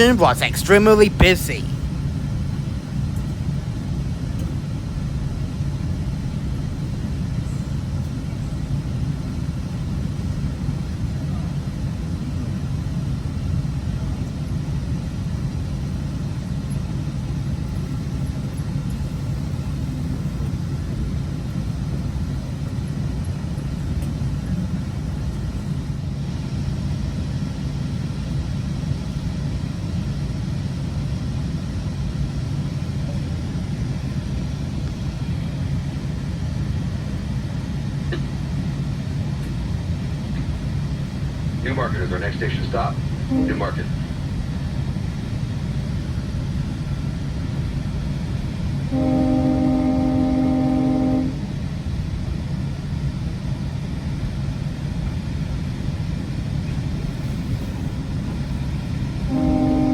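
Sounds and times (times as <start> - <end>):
constant low hum: 0.0 - 59.9
train wheels rumbling on rail: 0.8 - 59.9.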